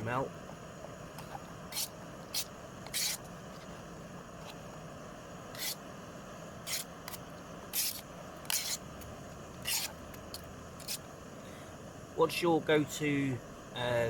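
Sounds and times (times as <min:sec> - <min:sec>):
gas stove hissing: 0:00.0 - 0:14.0.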